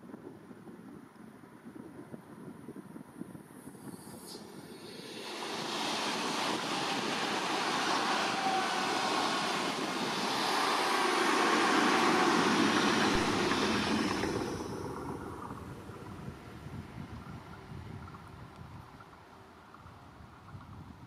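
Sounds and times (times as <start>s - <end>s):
train wheels rolling on rails: 3.6s - 21.0s.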